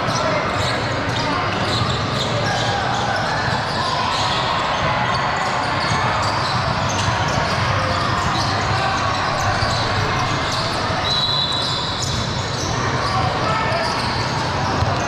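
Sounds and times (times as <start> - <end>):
din of spectators: 0.0 - 15.0.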